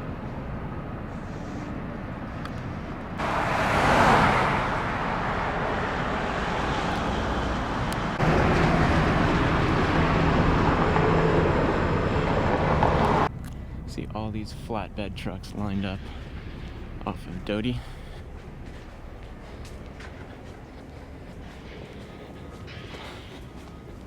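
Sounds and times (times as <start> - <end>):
engine and tyre noise: 0.0 - 24.0
vehicle passing: 0.6 - 24.0.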